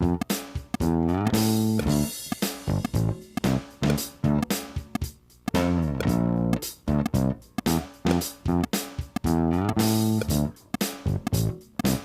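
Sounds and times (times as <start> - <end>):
band music with choppy guitar: 0.0 - 12.0.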